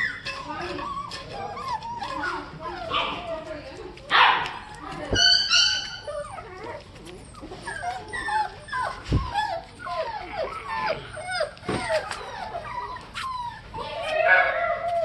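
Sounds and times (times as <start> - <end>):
puppies whining and yipping: 0.0 - 3.9, 4.5 - 15.0.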